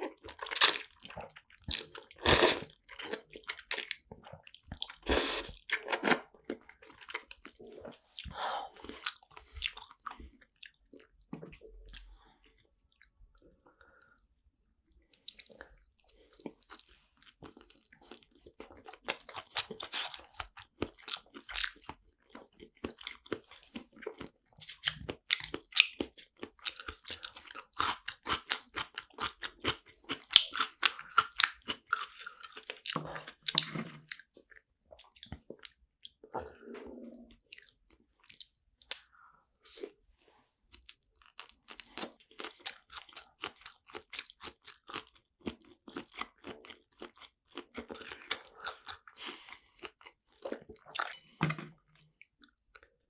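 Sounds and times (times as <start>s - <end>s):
person chewing food: 0.0s - 11.1s, 16.3s - 40.0s, 40.7s - 53.0s.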